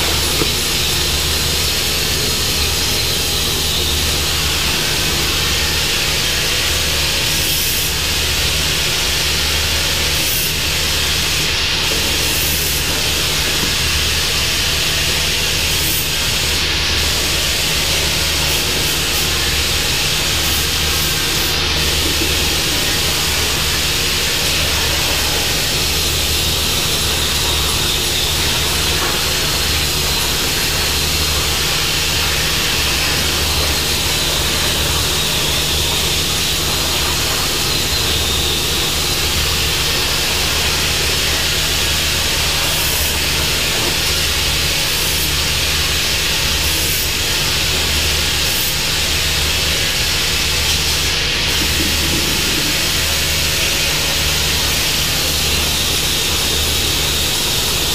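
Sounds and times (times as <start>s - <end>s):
plasma torch cutting steel: 0.0s - 57.9s.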